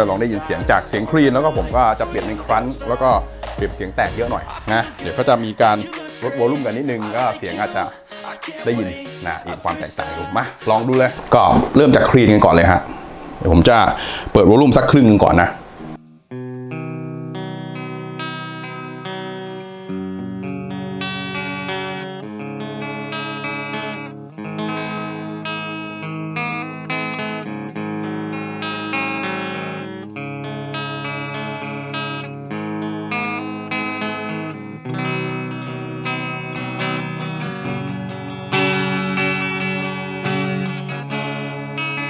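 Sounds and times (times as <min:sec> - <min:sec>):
clean electric guitar chords: 0:00.0 - 0:42.0.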